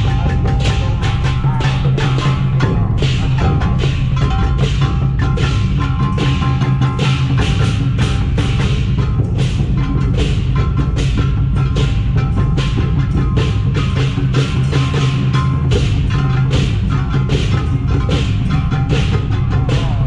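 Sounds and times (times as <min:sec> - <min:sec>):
large barrel drum beating: 0:00.0 - 0:20.0
ringing metal hand percussion: 0:00.0 - 0:20.0.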